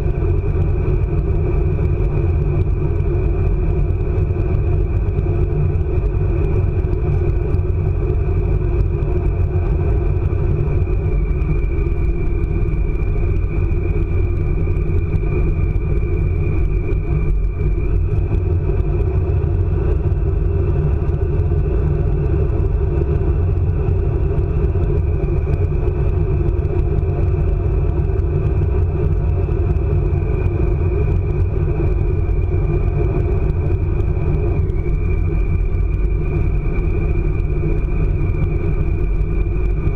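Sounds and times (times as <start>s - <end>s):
high whine: 0.0s - 39.9s.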